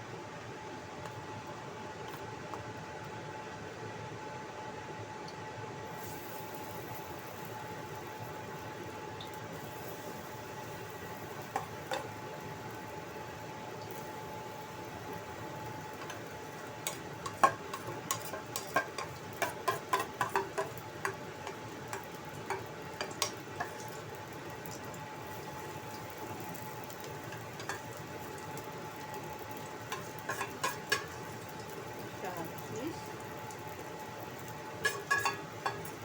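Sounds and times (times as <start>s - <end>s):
batter sizzling in oil: 5.7s - 36.0s.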